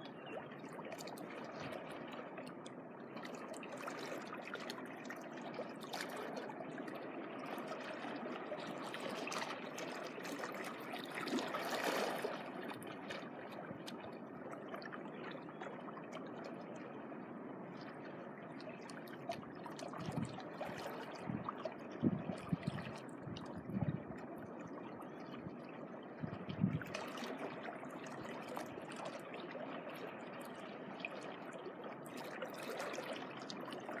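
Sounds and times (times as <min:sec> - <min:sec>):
small waves lapping on shore: 0:00.0 - 0:34.0.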